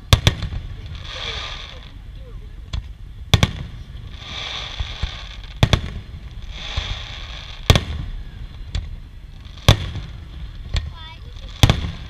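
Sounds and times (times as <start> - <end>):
firework bangs: 0.0 - 12.0
hissing crackle: 0.0 - 12.0.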